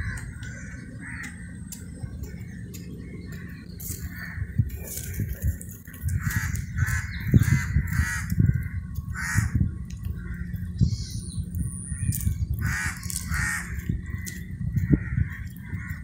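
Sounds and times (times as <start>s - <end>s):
crows cawing: 0.0s - 10.8s, 12.6s - 16.0s
low rumble: 0.0s - 16.0s.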